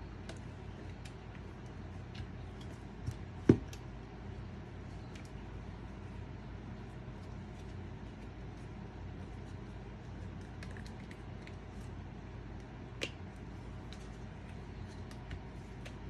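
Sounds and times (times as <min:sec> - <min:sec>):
steady low background hum: 0:00.0 - 0:16.0.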